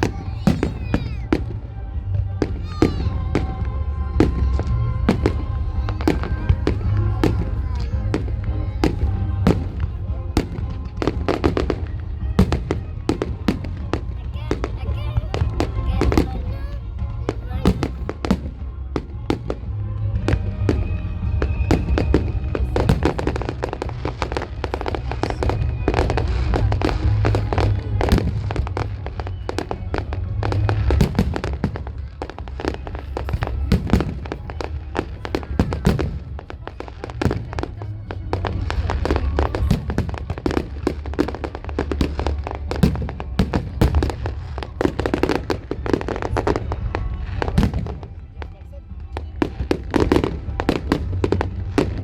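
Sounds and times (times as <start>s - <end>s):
fireworks bangs and crackling: 0.0s - 52.0s
music playing: 0.0s - 52.0s.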